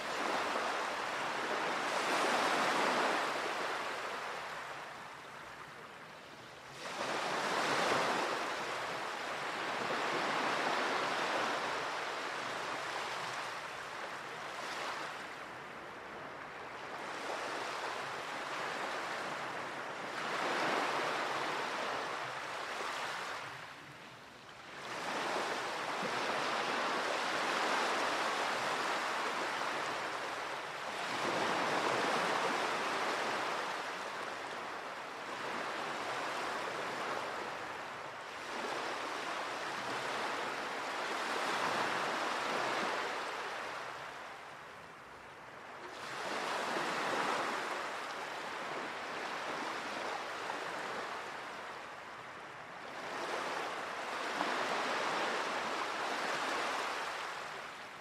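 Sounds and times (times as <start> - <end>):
sea waves washing ashore: 0.0 - 6.0, 6.6 - 58.0.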